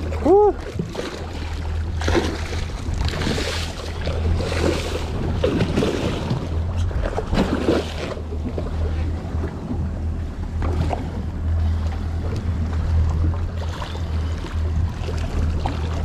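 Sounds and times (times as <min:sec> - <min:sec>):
steady low drone: 0:00.0 - 0:16.0
water washing against boat: 0:00.0 - 0:16.0.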